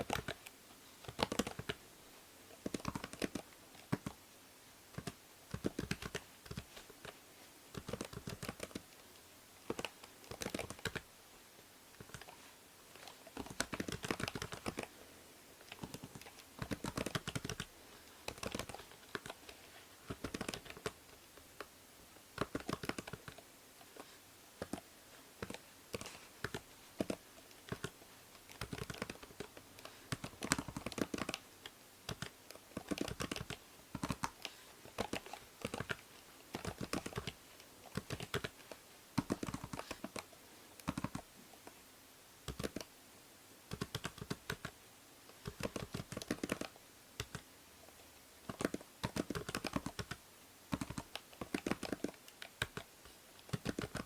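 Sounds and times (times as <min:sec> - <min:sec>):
typing on a keyboard: 0:00.0 - 0:01.8, 0:02.6 - 0:04.2, 0:04.9 - 0:09.0, 0:09.7 - 0:11.1, 0:12.0 - 0:12.4, 0:13.0 - 0:14.9, 0:15.6 - 0:21.7, 0:22.4 - 0:24.0, 0:24.6 - 0:41.8, 0:42.5 - 0:42.9, 0:43.7 - 0:47.5, 0:48.4 - 0:54.0
faint microphone hiss: 0:00.0 - 0:54.0.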